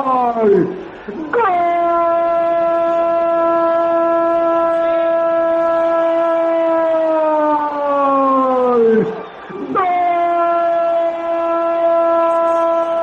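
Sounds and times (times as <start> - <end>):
commentator's long goal cry: 0.0 - 13.0.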